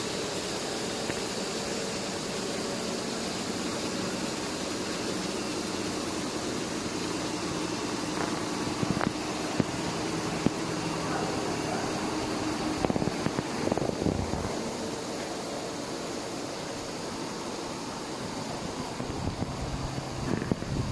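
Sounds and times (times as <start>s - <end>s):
air compressor humming: 0.0s - 20.9s.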